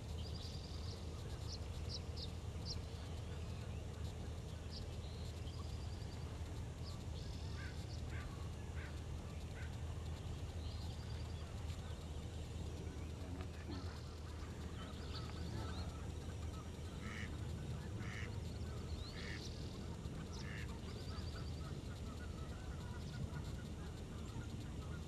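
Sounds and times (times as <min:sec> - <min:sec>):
steady low hum: 0:00.0 - 0:25.0
ducks calling: 0:02.0 - 0:25.0.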